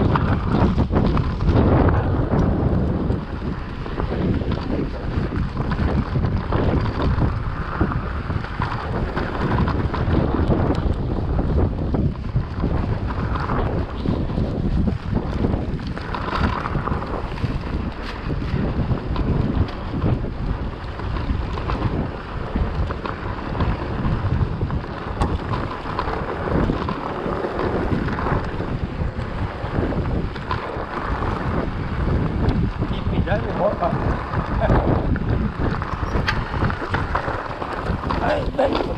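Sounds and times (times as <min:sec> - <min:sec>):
bike clicks and rattles: 0:00.0 - 0:38.9
bike tyres rolling on dirt: 0:00.0 - 0:38.9
wind buffeting microphone: 0:00.0 - 0:38.9.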